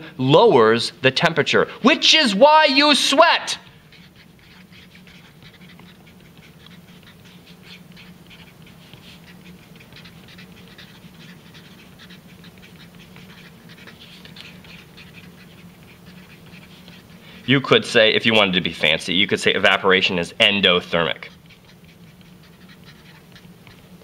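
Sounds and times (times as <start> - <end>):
marker squeaking on paper: 1.9 - 24.0
faint low hum: 3.6 - 24.0.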